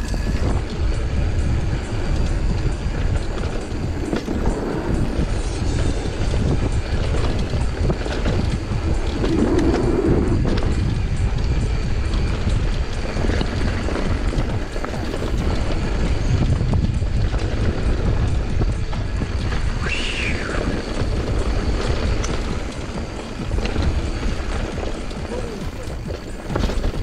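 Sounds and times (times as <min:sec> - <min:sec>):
bike rattling over bumps: 0:00.0 - 0:27.0
wind buffeting microphone: 0:00.0 - 0:27.0
tyres on dirt: 0:01.8 - 0:27.0.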